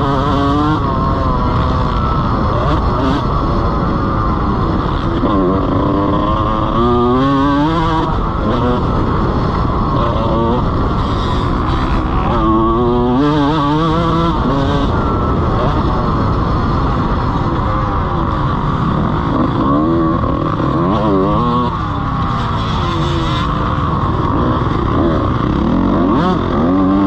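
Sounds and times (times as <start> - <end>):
motocross engine revving: 0.0 - 27.0.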